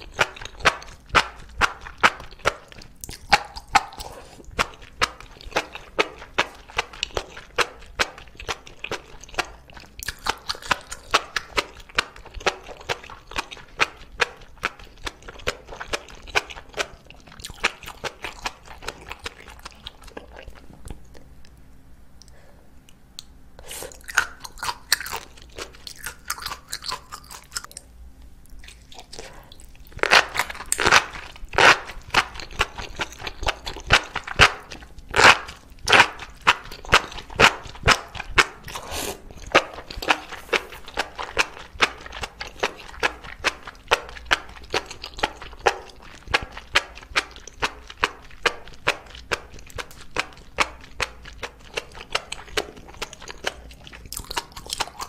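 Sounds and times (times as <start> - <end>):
wet crunchy chewing: 0.0 - 21.6, 23.6 - 55.0.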